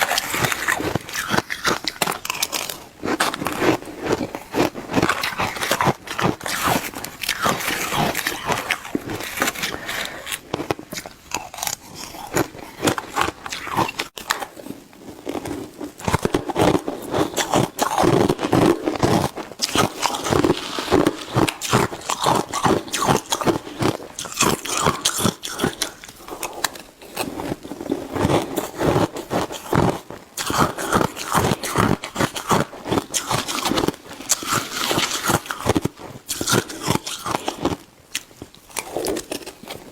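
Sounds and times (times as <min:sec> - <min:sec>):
shaved ice being chewed: 0:00.0 - 0:39.9.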